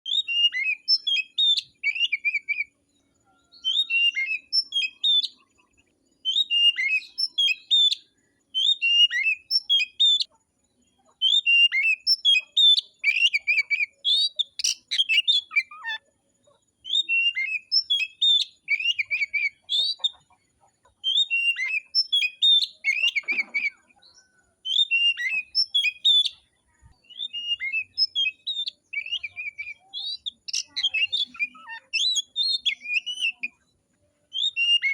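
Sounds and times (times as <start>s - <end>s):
songbird whistling: 0.0s - 5.4s, 6.2s - 10.3s, 11.2s - 16.0s, 16.8s - 20.2s, 21.0s - 33.6s, 34.3s - 34.9s.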